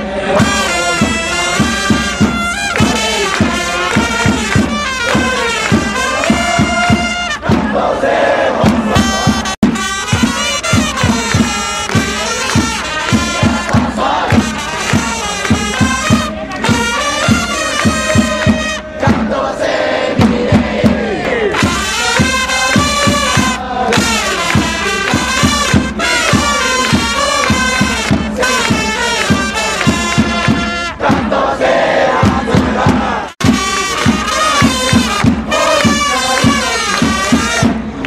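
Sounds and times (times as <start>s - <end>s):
trumpets: 0.0s - 20.2s, 21.4s - 38.0s
crowd singing and shouting: 0.0s - 38.0s
steady drumbeat: 0.0s - 38.0s.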